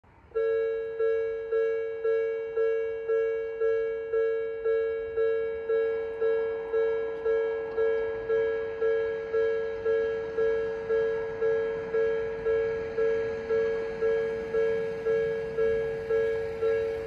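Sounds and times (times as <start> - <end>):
level crossing warning bell: 0.3 - 17.0.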